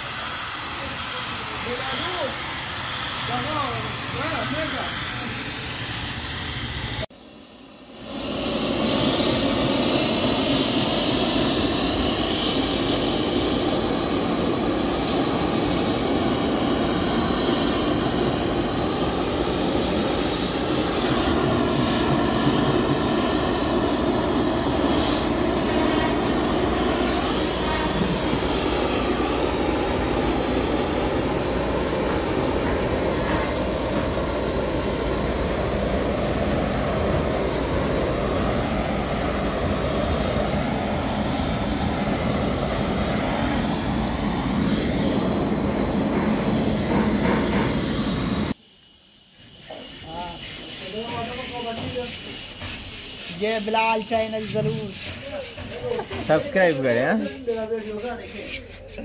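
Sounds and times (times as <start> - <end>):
air compressor running: 0.0 - 7.1, 8.8 - 42.9, 43.8 - 57.6
compressed air hissing: 0.0 - 7.1, 9.8 - 42.9, 43.7 - 58.9.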